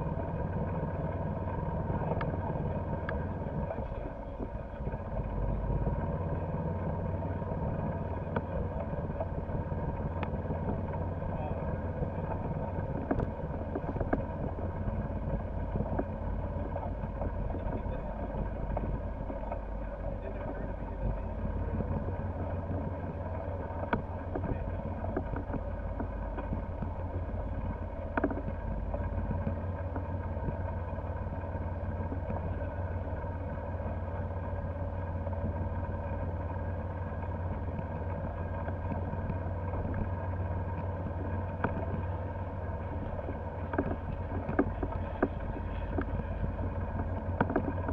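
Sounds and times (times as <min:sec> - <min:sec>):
golf cart motor whine: 0:00.0 - 0:47.9.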